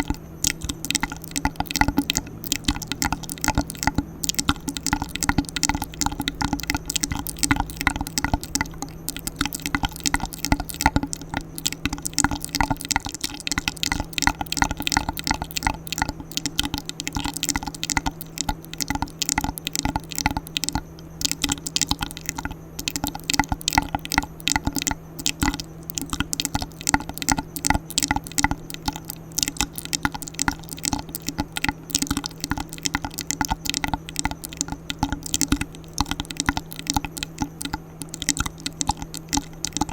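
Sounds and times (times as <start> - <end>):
wet mouth clicks and smacks: 0.0 - 39.9.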